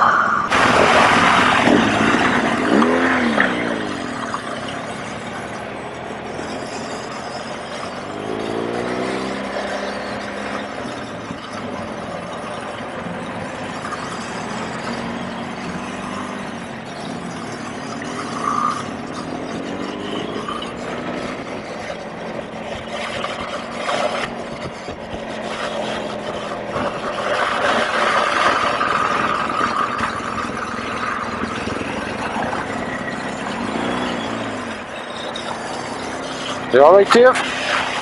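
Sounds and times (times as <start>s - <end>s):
road and wind noise: 0.0s - 38.0s
motorcycle engine running: 0.5s - 38.0s.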